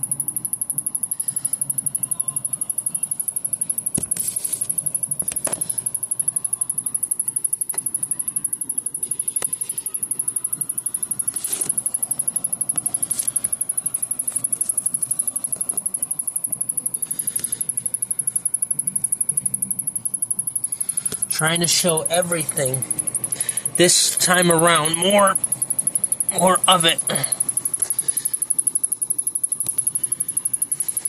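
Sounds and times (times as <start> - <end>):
high-pitched electronic ticking: 0.0 - 31.0.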